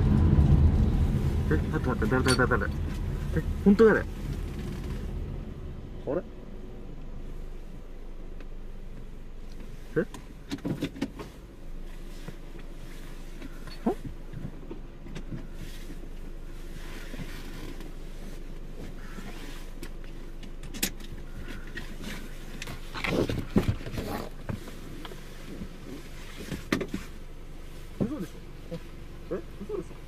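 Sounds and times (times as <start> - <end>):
car engine humming: 0.0 - 30.0.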